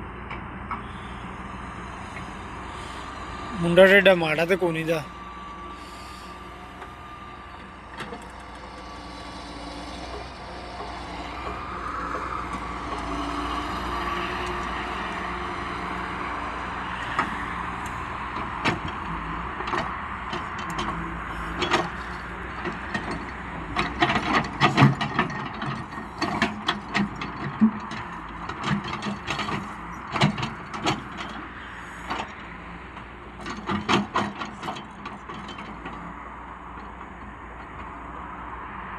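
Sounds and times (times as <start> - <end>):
heavy machine engine running: 0.0 - 38.8.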